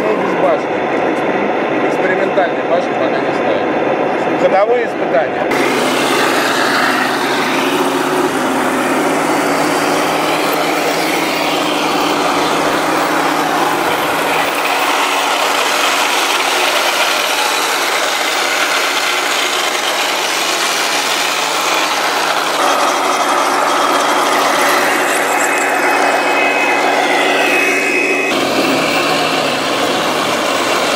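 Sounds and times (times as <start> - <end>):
model tanks whirring and rattling: 5.5 - 30.9.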